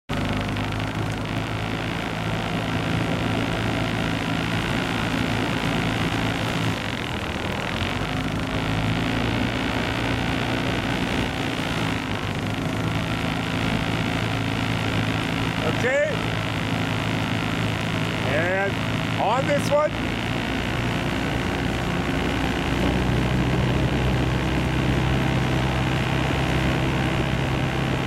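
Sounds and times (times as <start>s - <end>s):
outboard motor running: 0.1s - 28.0s.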